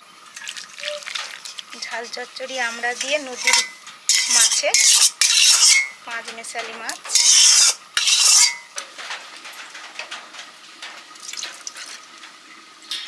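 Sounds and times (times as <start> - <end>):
metal utensil scraping pot: 0.8 - 13.0.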